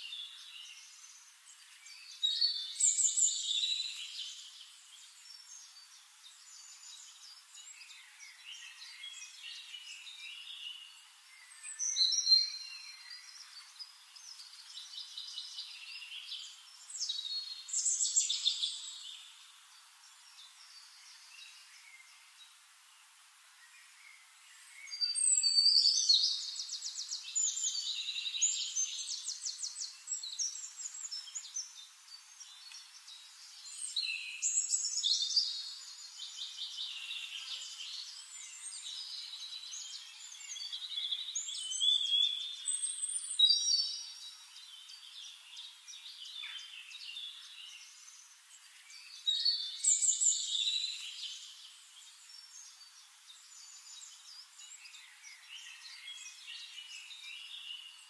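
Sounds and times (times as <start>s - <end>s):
songbird trilling and chirping: 0.0s - 19.6s, 24.6s - 58.0s.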